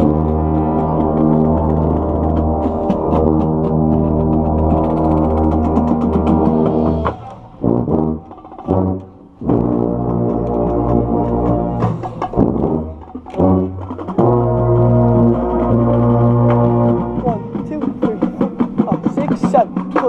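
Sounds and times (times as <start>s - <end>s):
marching band brass: 0.0s - 20.0s.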